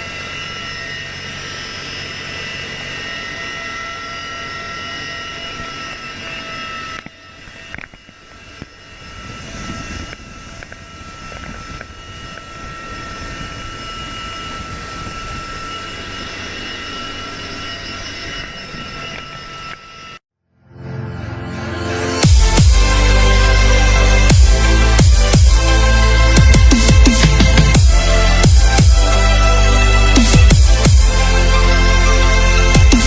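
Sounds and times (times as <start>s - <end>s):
aircraft engine whine: 0.0s - 33.0s.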